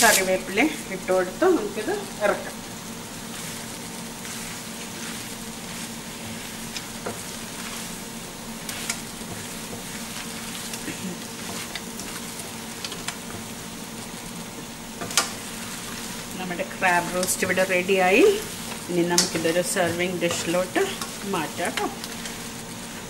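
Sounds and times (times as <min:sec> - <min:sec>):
food sizzling in pan: 0:00.0 - 0:23.0.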